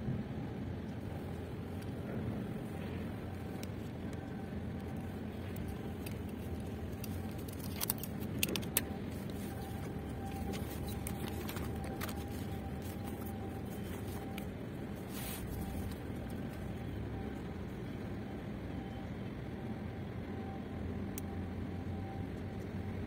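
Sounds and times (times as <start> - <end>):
faint steady hum: 0.0 - 23.0
low outdoor rumble: 0.0 - 23.0.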